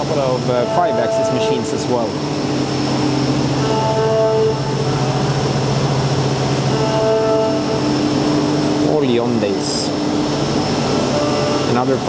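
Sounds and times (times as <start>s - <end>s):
high machine tone: 0.0s - 12.0s
machining centre hum: 0.0s - 12.0s.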